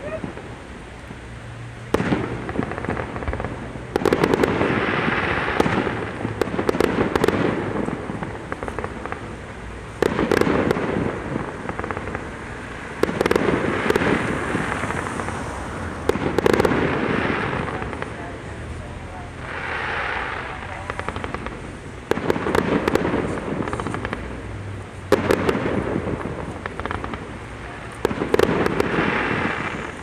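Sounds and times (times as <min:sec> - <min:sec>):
firework bangs: 0:00.0 - 0:30.0
firework crackling: 0:00.0 - 0:30.0.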